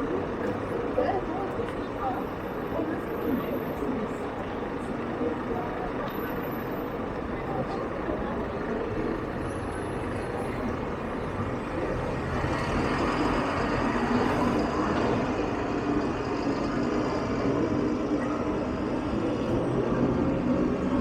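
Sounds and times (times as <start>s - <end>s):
passing vehicles: 0.0s - 21.0s.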